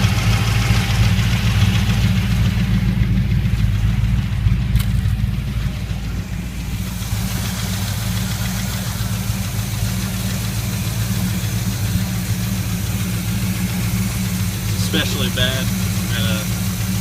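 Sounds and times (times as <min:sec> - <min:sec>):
car engine idling: 0:00.0 - 0:17.0
engine ticking knock: 0:00.0 - 0:17.0.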